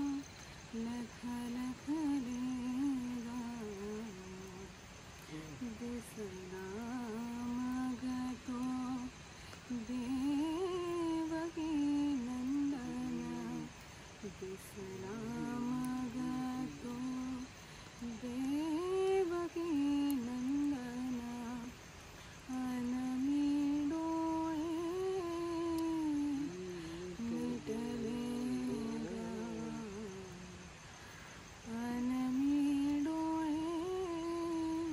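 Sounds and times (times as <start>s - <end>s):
person humming a slow tune: 0.0s - 21.8s, 22.4s - 30.8s, 31.6s - 34.9s.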